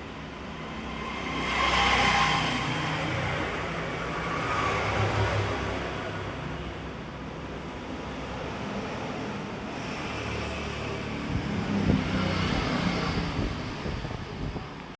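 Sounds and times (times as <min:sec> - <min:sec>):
electric fan airflow rushing: 0:00.0 - 0:14.9.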